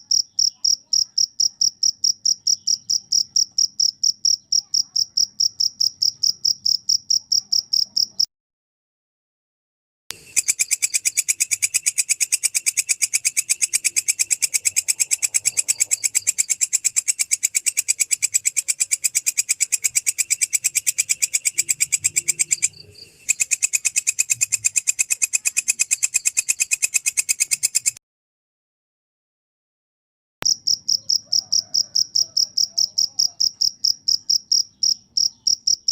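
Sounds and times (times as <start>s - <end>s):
insect chirping: 0.0s - 8.3s, 10.1s - 28.0s, 30.4s - 35.9s.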